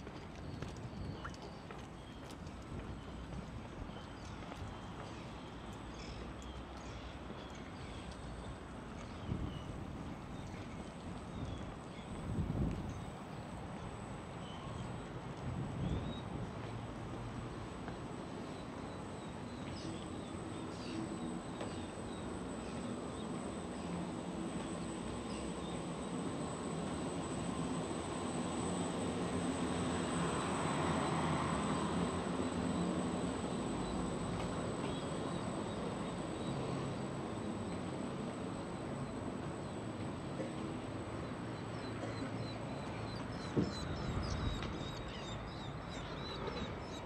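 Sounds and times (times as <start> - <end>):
distant engine drone: 0.8 - 47.0.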